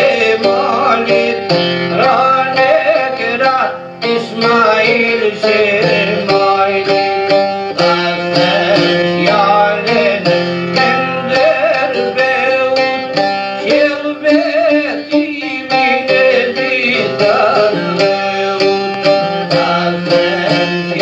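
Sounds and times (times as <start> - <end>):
plucked string melody: 0.0 - 21.0
sustained low backing: 0.0 - 21.0.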